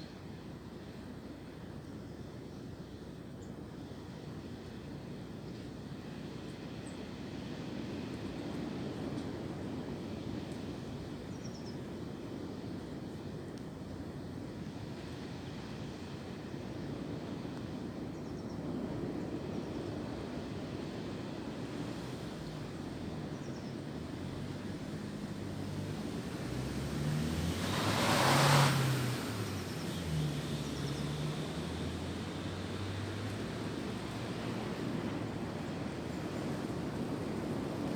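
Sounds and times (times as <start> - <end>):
wind through tree branches: 0.0 - 37.9.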